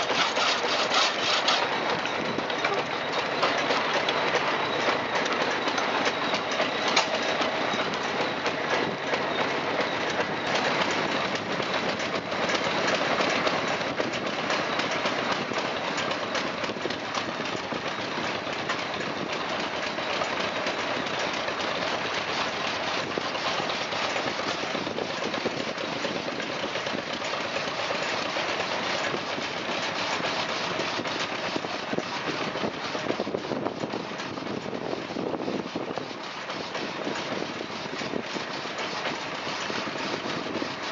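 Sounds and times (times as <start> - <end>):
drag saw mechanical clatter: 0.0 - 40.9.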